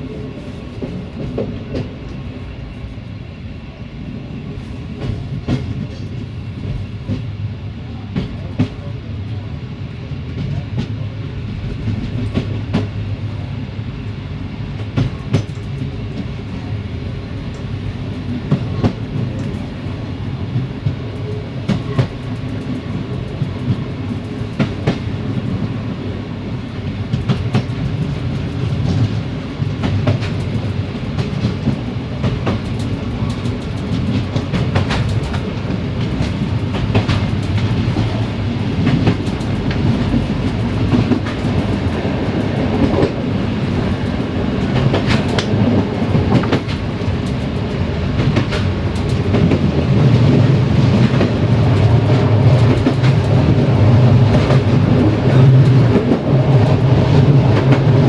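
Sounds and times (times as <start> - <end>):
rail joint clicks and clacks: 0.0 - 58.0
train wheels rumbling: 0.0 - 58.0.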